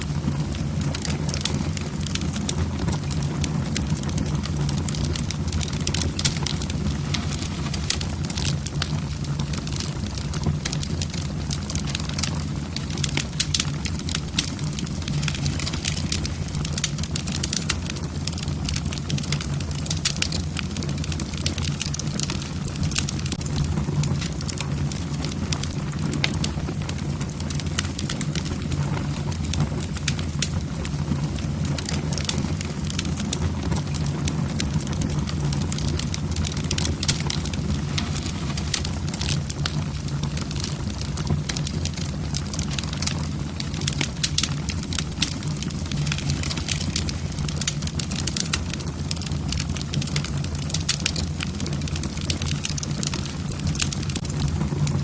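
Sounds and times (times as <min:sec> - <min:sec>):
logs crackling and popping: 0:00.0 - 0:55.0.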